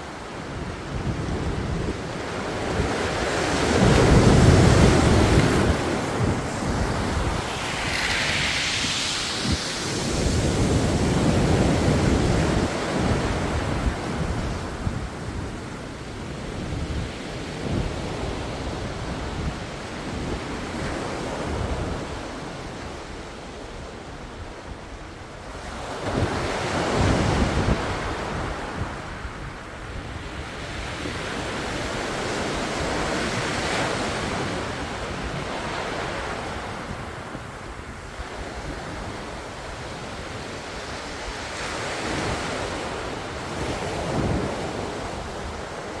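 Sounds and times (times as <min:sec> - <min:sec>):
waves breaking on shore: 0:00.0 - 0:46.0
wind buffeting microphone: 0:00.0 - 0:46.0.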